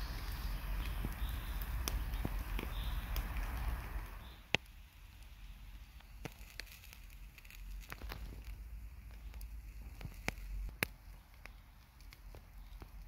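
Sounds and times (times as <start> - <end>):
faint low rumble: 0.0 - 11.8
campfire coals crackling: 0.0 - 13.0.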